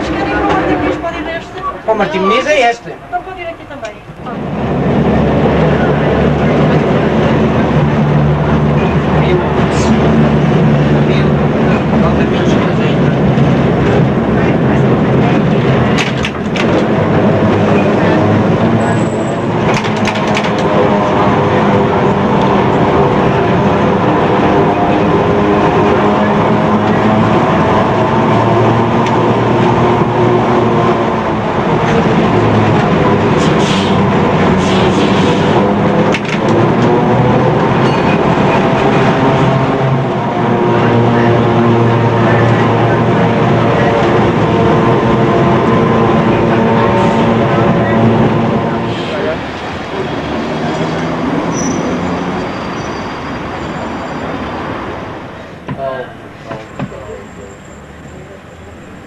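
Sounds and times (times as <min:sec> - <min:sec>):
tram clicks and rattles: 0:00.0 - 0:01.7, 0:03.1 - 0:52.4, 0:54.3 - 0:57.3
tram motor whine: 0:00.0 - 0:59.0.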